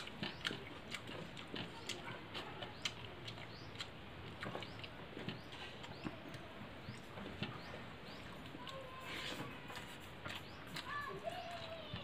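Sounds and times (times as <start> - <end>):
fingers mixing wet food: 0.0 - 12.0.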